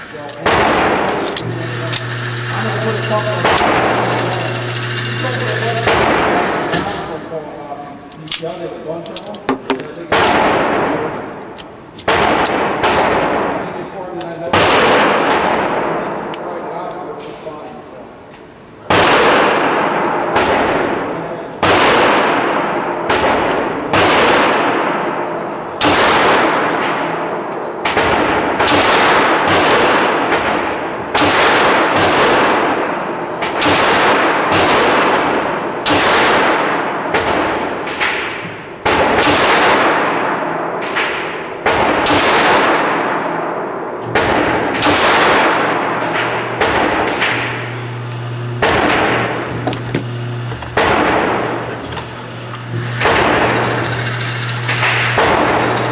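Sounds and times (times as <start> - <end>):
pistol shots echoing indoors: 0.0 - 4.0, 9.5 - 17.0, 18.8 - 49.5, 50.4 - 51.7, 52.7 - 53.7, 54.6 - 55.8.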